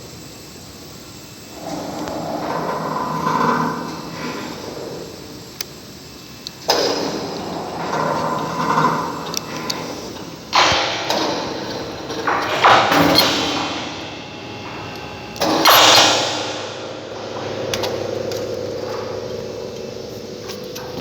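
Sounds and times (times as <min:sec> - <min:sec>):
metal screeching and groaning: 0:01.5 - 0:05.6, 0:06.9 - 0:21.0.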